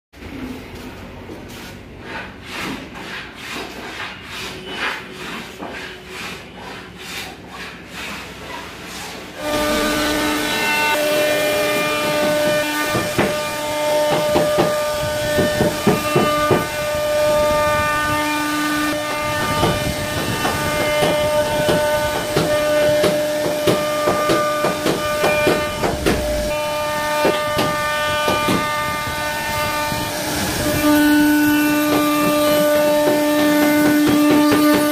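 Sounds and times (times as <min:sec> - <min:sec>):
rasping rubbing strokes on wood: 0:01.5 - 0:34.9.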